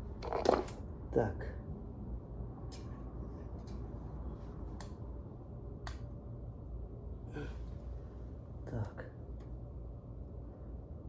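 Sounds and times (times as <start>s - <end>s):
steady low rumble: 0.8s - 11.0s.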